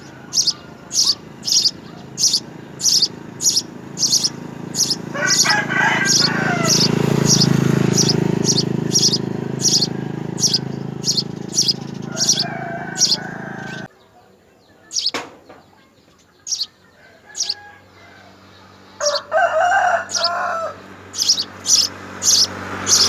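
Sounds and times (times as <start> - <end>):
lower bird calls: 0.0 - 13.9, 14.8 - 15.2, 16.4 - 23.0
small bird chirping: 0.0 - 13.9, 14.8 - 17.7, 18.4 - 23.0.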